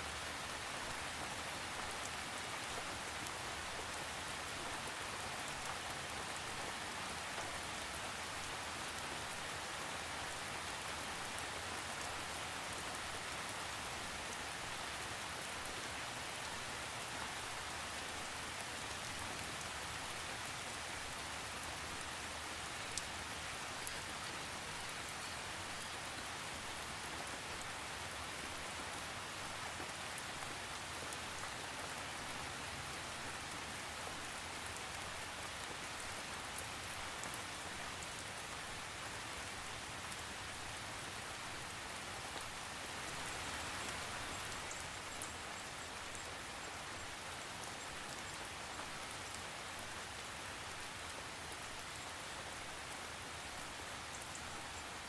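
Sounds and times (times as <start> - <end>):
steady rain on a surface: 0.0 - 55.0.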